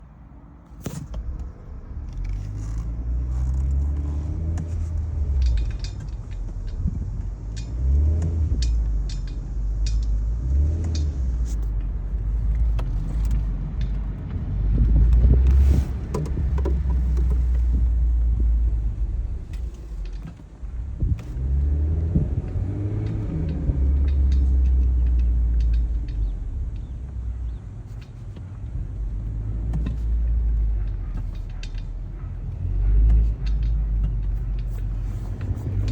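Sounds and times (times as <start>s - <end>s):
car driving on road: 0.0s - 35.9s
light clicks and rattles: 0.8s - 35.9s.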